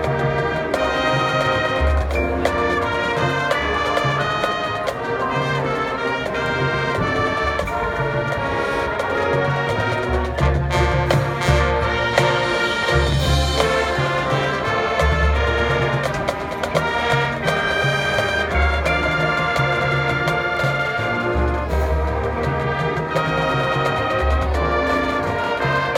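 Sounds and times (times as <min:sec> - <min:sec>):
marching band playing: 0:00.0 - 0:25.9.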